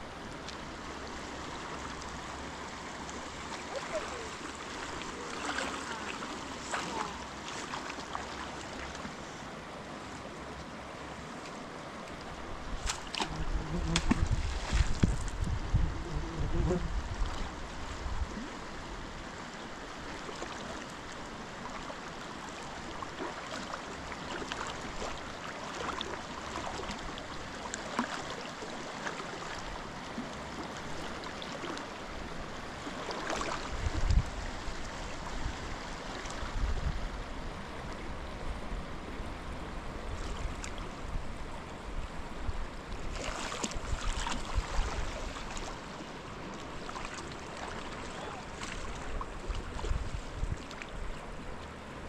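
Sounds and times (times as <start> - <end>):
river water rushing: 0.0 - 15.4, 17.0 - 52.0.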